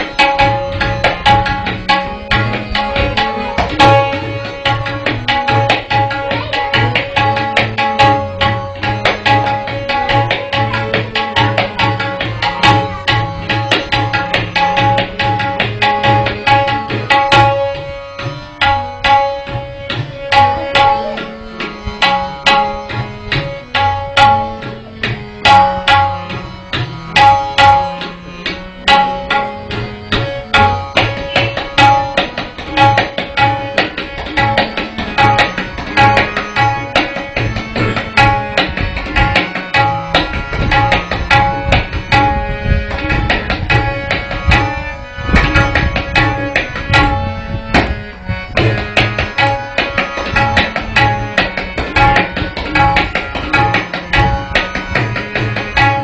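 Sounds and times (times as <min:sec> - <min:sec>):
harmonium melody: 0:00.0 - 0:56.0
tabla drumming: 0:00.0 - 0:56.0.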